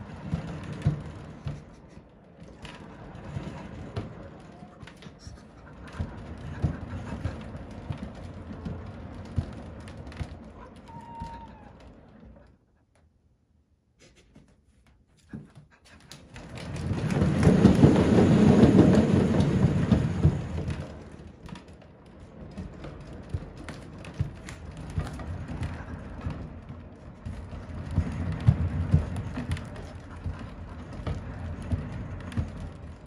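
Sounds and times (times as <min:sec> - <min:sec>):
cat wheel rolling rumble: 0:00.0 - 0:13.1, 0:15.1 - 0:33.0.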